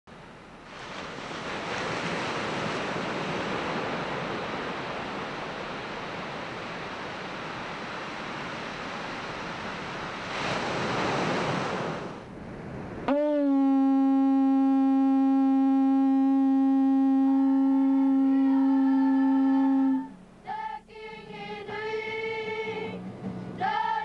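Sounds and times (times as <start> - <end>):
ocean surf washing: 0.1 - 20.4.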